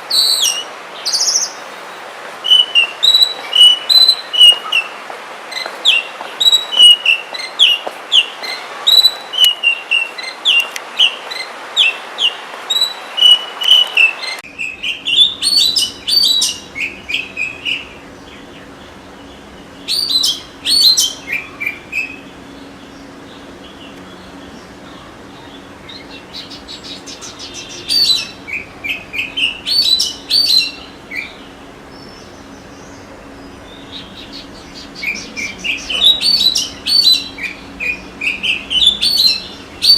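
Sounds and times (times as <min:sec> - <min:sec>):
bird singing whistled notes: 0:02.4 - 0:04.9, 0:05.6 - 0:18.7, 0:19.8 - 0:24.7, 0:25.8 - 0:39.9.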